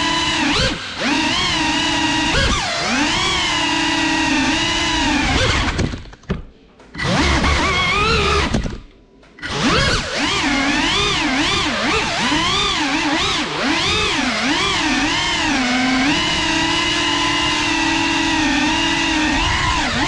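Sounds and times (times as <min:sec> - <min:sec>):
drone motors whining: 0:00.0 - 0:06.0, 0:06.9 - 0:08.8, 0:09.4 - 0:20.0.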